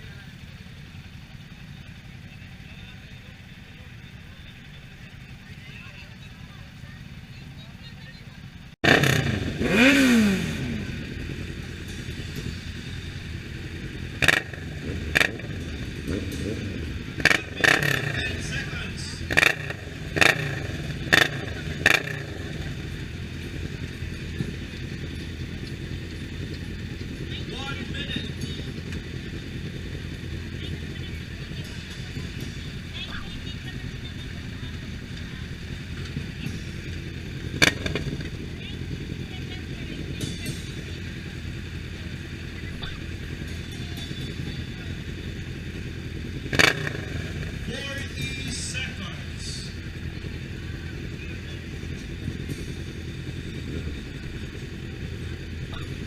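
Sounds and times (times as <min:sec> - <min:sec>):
motorcycle engines rumbling: 0:00.0 - 0:56.0.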